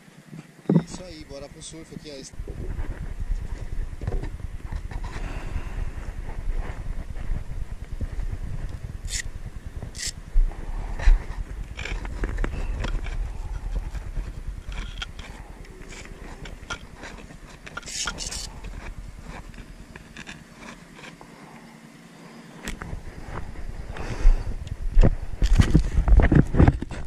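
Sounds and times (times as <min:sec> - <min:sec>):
microphone bumps: 0:00.7 - 0:01.3, 0:02.3 - 0:20.9, 0:22.7 - 0:27.0
wind on microphone: 0:00.8 - 0:20.2, 0:22.7 - 0:27.0.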